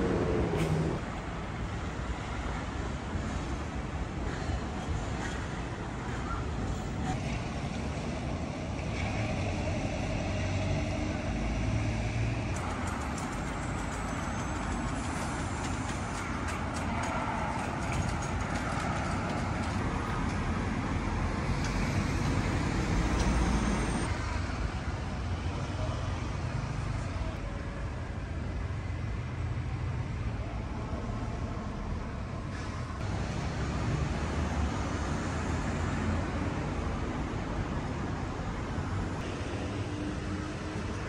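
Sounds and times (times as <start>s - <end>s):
cars passing: 0.0s - 27.5s, 28.4s - 41.0s
bus passing: 0.0s - 41.0s.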